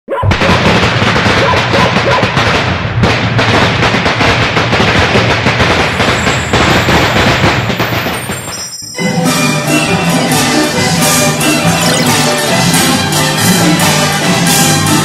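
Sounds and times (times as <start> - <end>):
firecrackers crackling: 0.3 - 15.0.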